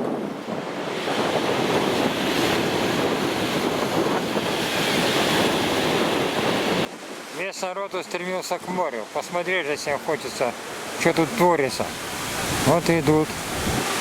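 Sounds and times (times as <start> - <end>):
wind buffeting microphone: 0.0 - 7.4, 10.0 - 14.0
surf breaking: 0.0 - 14.0.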